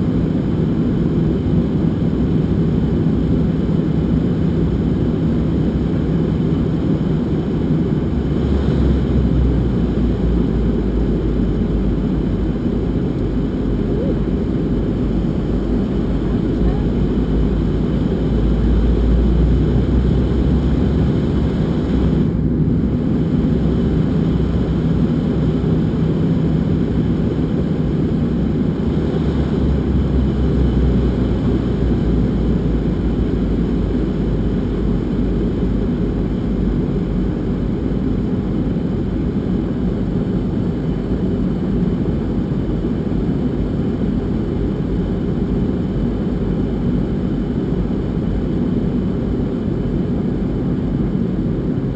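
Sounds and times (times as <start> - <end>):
airliner engine rumble in cabin: 0.0 - 51.9.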